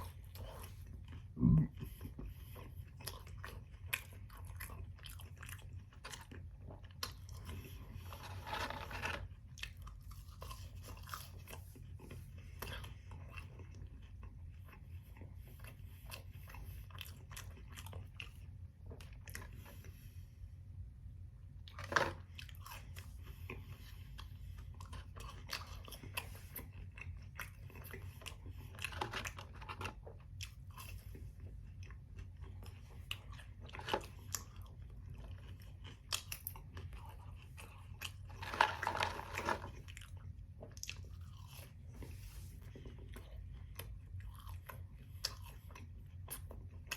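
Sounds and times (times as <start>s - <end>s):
man chewing food: 0.0s - 46.9s.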